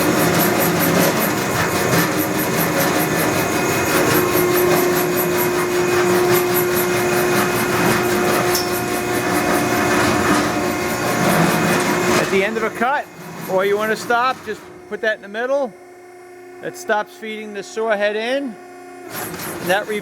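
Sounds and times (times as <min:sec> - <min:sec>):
bandsaw running: 0:00.0 - 0:20.0
steady machine hum: 0:00.0 - 0:20.0.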